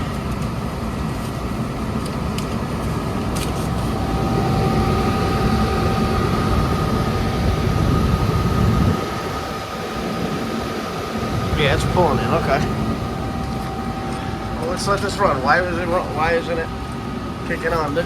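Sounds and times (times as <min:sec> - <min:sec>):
furnace blower air rushing: 0:00.0 - 0:18.0
low hum: 0:00.0 - 0:18.0
whining tones: 0:01.4 - 0:18.0.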